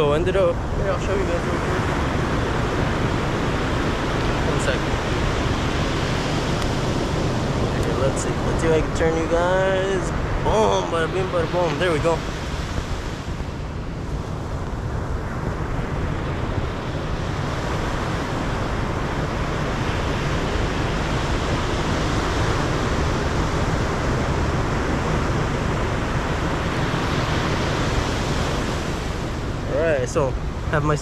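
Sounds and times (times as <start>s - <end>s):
wind rumbling on microphone: 0.0s - 31.0s
ocean surf breaking: 0.5s - 30.7s.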